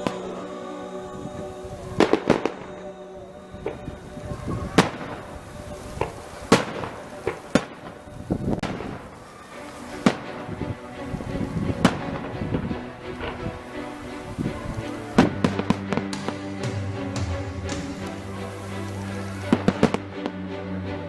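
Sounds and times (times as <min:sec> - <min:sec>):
fireworks bursting: 0:00.0 - 0:20.4.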